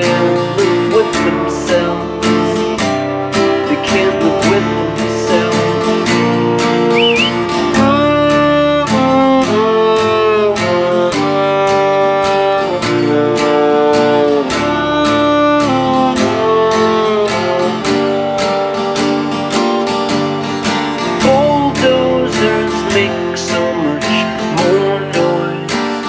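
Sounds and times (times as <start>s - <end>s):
strummed acoustic guitar: 0.0s - 26.0s
violin melody with sliding notes: 0.0s - 26.0s.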